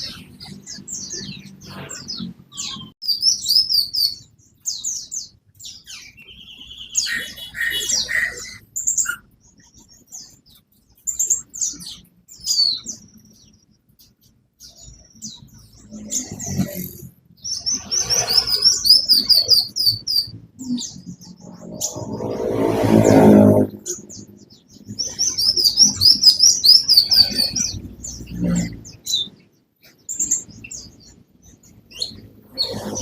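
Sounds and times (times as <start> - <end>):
songbird singing chirps and trills: 0.0 - 33.0.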